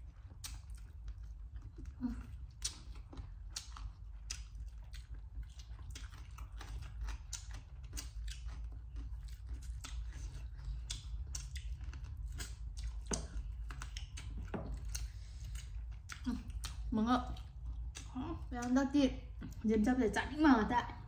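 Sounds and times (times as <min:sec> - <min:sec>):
crunchy chewing: 0:00.0 - 0:19.6.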